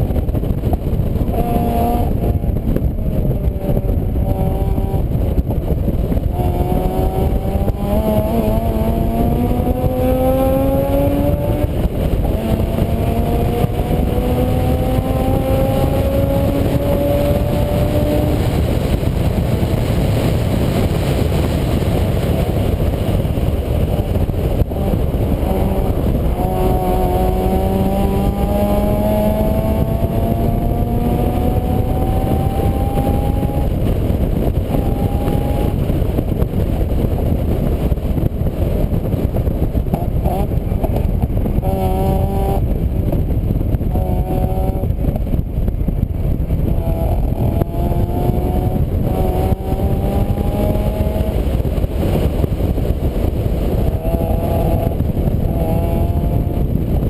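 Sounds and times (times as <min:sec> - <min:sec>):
loud low rumble: 0:00.0 - 0:57.0
vehicle engine accelerating: 0:00.0 - 0:57.0.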